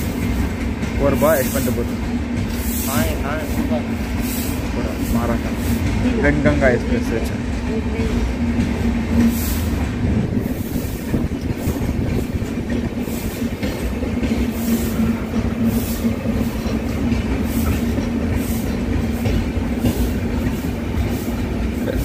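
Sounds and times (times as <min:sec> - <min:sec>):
high wheel hisses: 0:00.0 - 0:06.1, 0:08.9 - 0:22.0
wheels rumbling on rail: 0:00.0 - 0:22.0.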